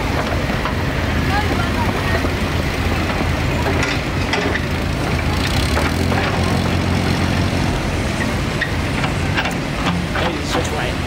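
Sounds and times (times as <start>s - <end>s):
dumper diesel engine running: 0.0s - 11.0s.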